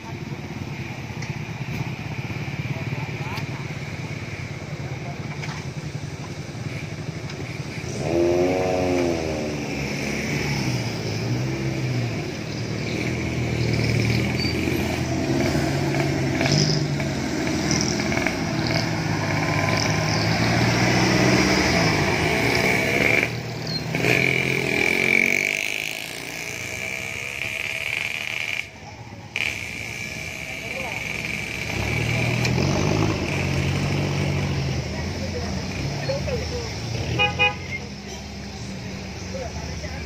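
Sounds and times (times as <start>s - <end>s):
off-road jeep engine passing: 0.0s - 40.0s
motorcycle engine passing: 1.9s - 37.2s.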